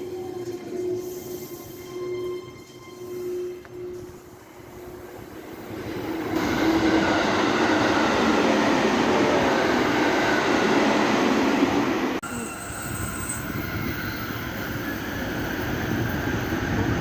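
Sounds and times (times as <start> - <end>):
train rumbling and rattling: 0.0 - 17.0.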